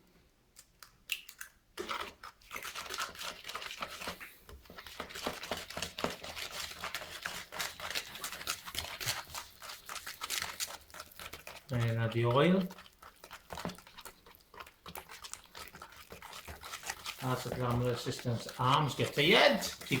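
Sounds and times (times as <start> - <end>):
whisk beating batter in bowl: 1.8 - 20.0.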